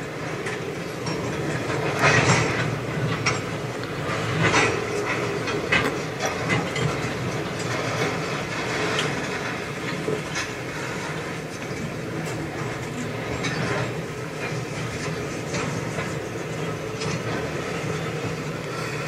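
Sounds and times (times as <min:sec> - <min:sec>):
train wheels rumbling over rails: 0:00.0 - 0:19.0.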